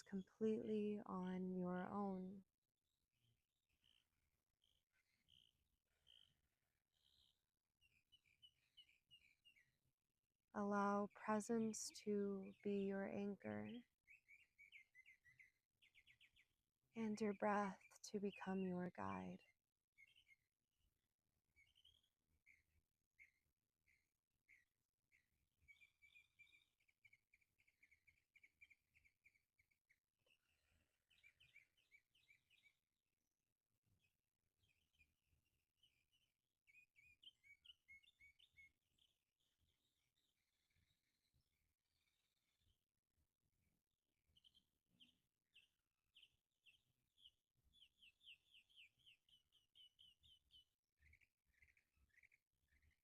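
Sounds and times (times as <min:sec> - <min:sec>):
faint birdsong chirps: 0:00.0 - 0:53.0.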